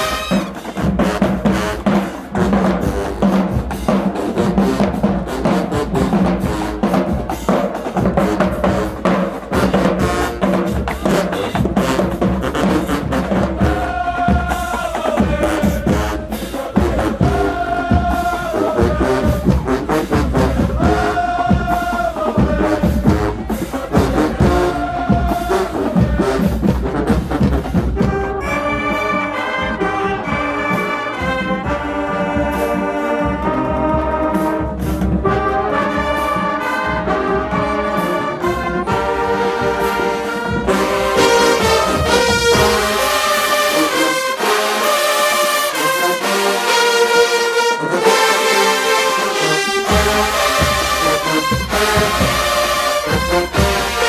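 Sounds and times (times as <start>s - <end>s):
brass playing: 0.0s - 54.0s
drumline beat: 0.0s - 54.0s.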